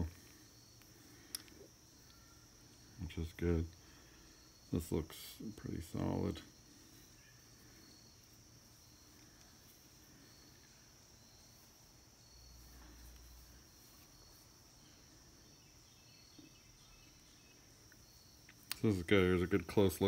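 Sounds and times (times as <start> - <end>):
faint high-pitched hiss: 0.0 - 20.0.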